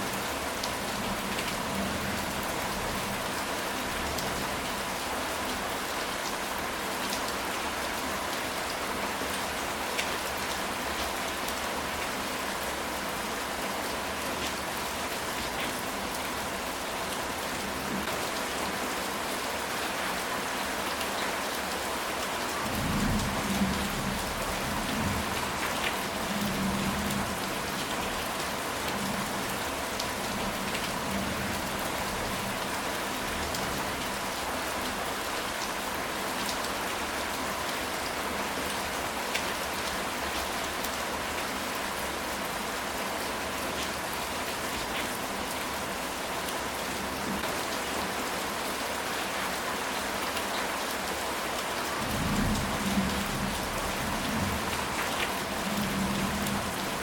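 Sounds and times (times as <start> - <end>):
rain on a tile roof: 0.0 - 57.0.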